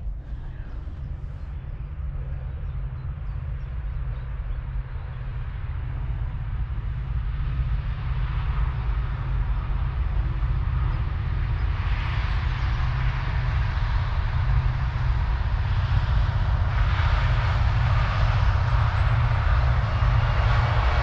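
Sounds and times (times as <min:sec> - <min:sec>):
distant train passing: 0:00.0 - 0:21.0
wind buffeting microphone: 0:00.0 - 0:21.0.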